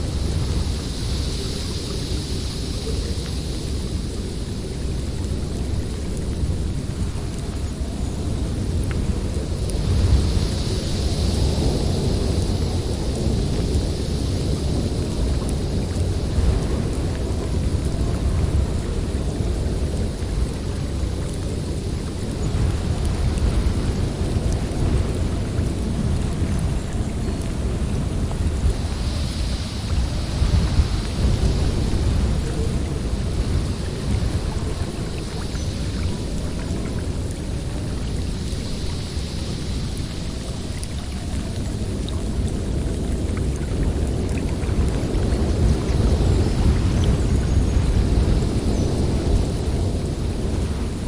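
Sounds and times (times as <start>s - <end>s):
blizzard wind rumbling: 0.0s - 51.0s.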